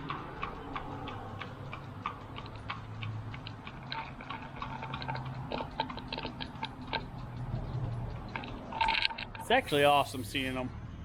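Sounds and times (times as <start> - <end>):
ratcheting hand tool clicking: 0.0 - 10.0.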